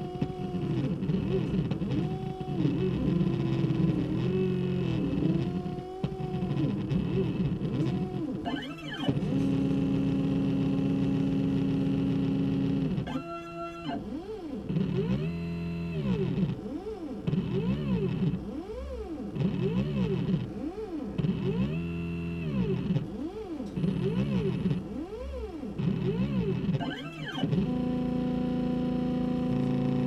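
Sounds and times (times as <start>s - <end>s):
stepper motors whining: 0.0s - 16.6s, 21.4s - 30.0s.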